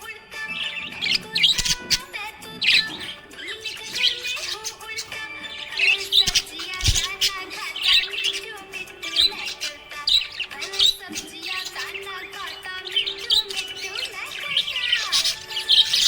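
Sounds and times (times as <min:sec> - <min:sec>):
background music with held notes: 0:00.0 - 0:16.0
budgies chirping and chattering: 0:00.0 - 0:16.0.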